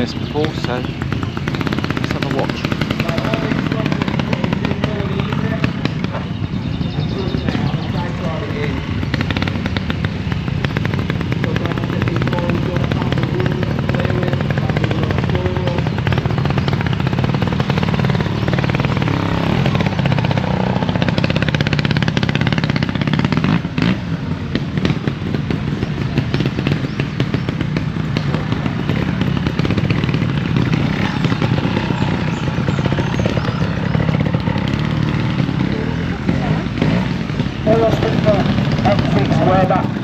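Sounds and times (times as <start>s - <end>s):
motorcycle engine at low speed: 0.0s - 40.0s.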